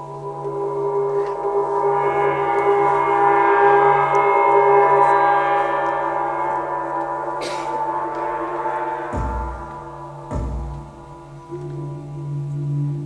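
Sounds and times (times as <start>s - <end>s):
ambient ringing drone music: 0.0s - 13.0s.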